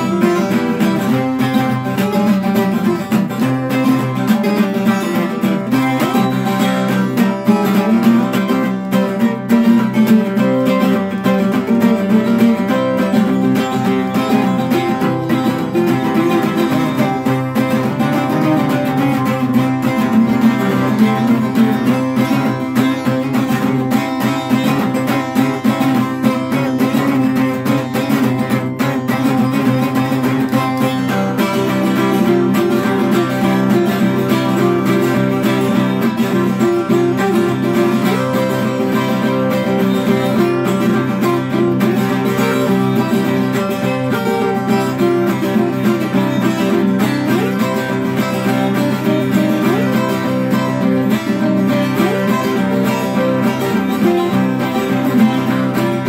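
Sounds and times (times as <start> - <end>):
acoustic guitar picked and strummed: 0.0 - 56.0.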